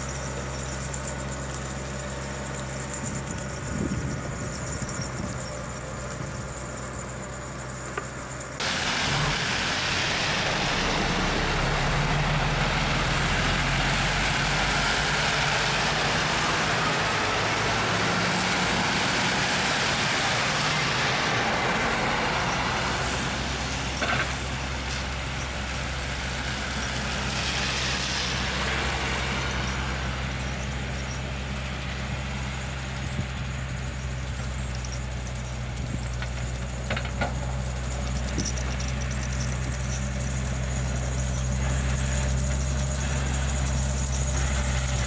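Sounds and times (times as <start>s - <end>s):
truck engine running: 0.0s - 45.0s
tyres and plow hissing in slush: 0.0s - 45.0s.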